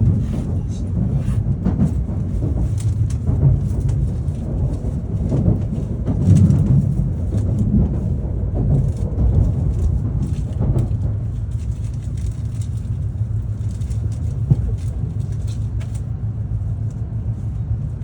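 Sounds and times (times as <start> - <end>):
faint rattles: 0.0 - 18.0
train low rumble: 0.0 - 18.0.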